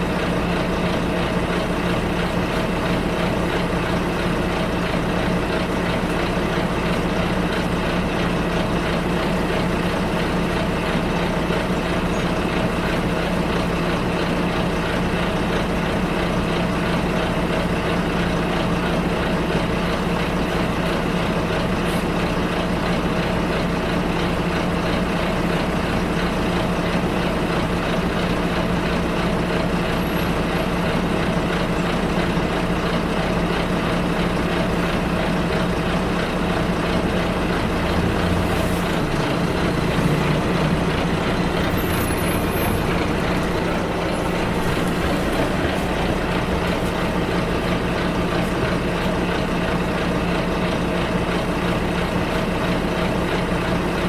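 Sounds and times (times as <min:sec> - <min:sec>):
bus engine droning: 0:00.0 - 0:54.0
road and cabin noise: 0:00.0 - 0:54.0.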